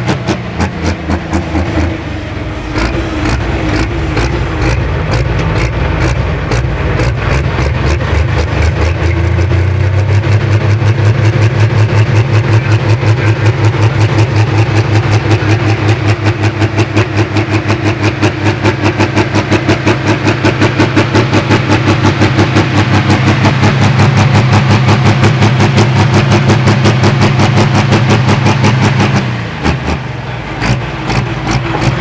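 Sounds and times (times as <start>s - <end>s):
loud pulsing diesel engine: 0.0s - 32.0s.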